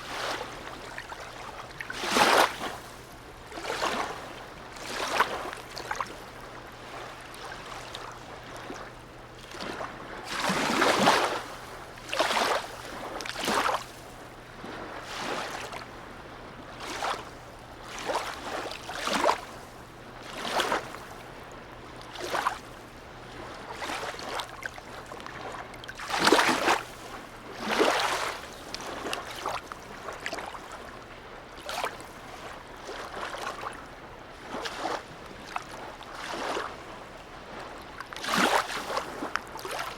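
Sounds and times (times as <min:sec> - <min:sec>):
harbour water lapping: 0:00.0 - 0:39.9.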